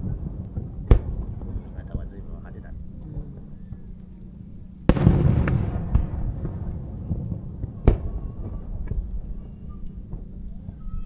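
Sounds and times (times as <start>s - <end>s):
fireworks bursting: 0.0s - 2.7s, 4.8s - 11.0s
rumble: 0.0s - 11.0s.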